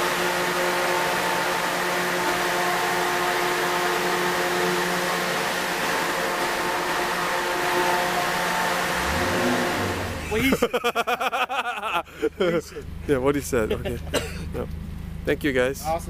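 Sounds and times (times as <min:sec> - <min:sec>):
cooling fan running: 0:00.0 - 0:16.0.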